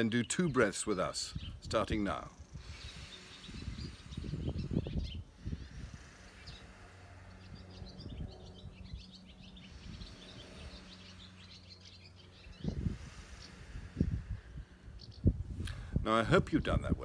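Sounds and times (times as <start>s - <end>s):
low outdoor background hum: 0.0s - 17.0s
songbirds chirping: 0.0s - 17.0s.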